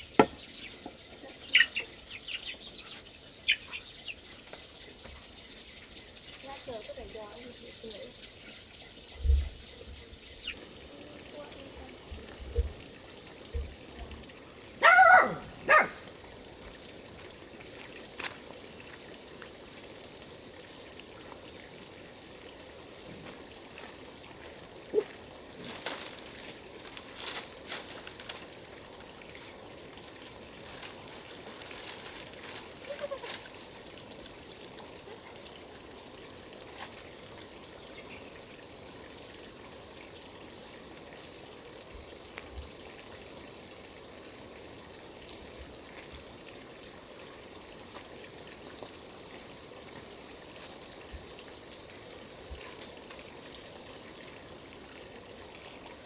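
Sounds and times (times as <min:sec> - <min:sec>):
crickets and insects droning: 0:00.0 - 0:56.0.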